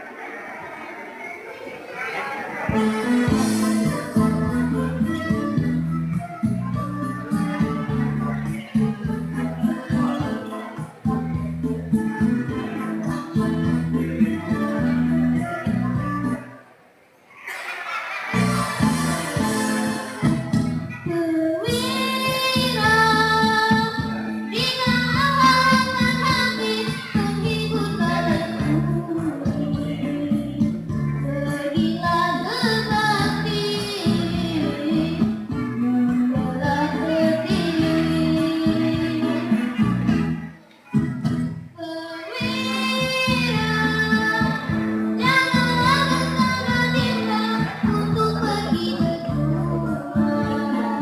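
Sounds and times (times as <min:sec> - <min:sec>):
musical accompaniment: 0:02.6 - 0:16.7, 0:18.2 - 0:51.0
girl singing into a microphone: 0:02.7 - 0:08.2, 0:08.8 - 0:16.4, 0:20.9 - 0:40.2, 0:41.8 - 0:51.0.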